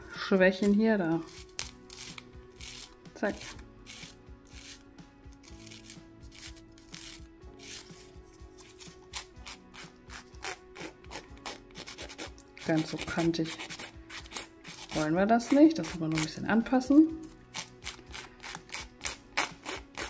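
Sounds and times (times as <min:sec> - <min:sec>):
nail file rasping on plastic: 0:01.2 - 0:16.5, 0:17.2 - 0:20.0.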